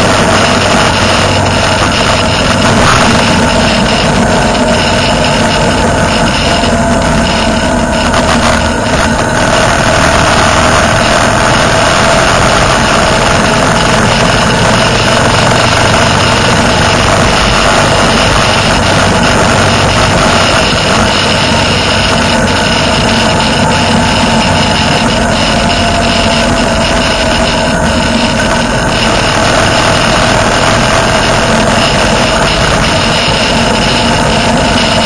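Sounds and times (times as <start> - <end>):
motorcycle engine cruising: 0.0 - 35.0
road and wind noise: 0.0 - 35.0.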